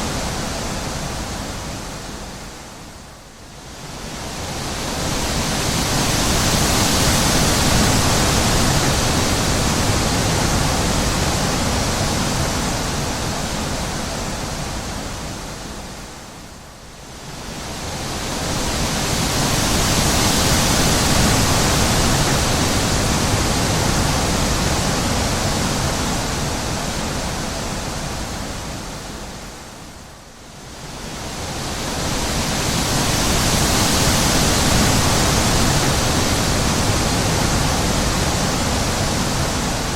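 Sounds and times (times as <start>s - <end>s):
wind gusts: 0.0s - 39.9s.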